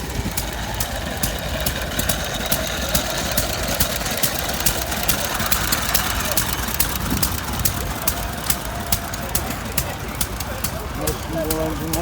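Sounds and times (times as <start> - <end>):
stationary engine running with ticks: 0.0 - 12.0.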